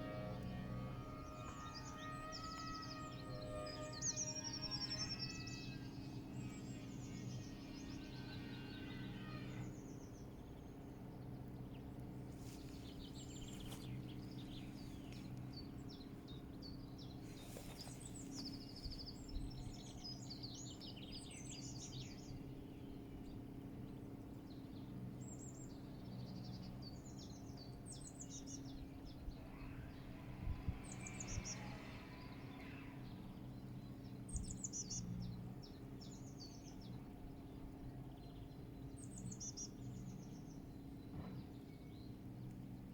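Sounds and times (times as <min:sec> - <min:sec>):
low background drone: 0:00.0 - 0:42.9
songbirds chirping in trills: 0:00.0 - 0:42.9.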